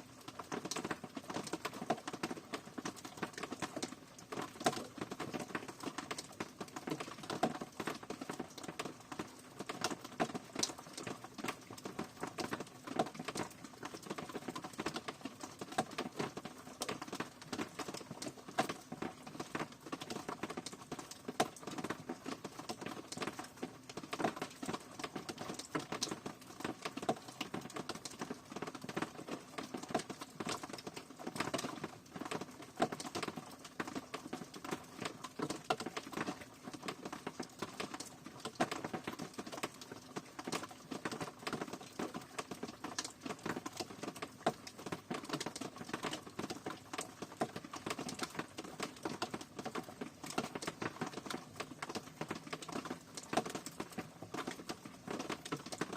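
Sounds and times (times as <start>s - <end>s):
rain drops pattering: 0.0s - 55.9s.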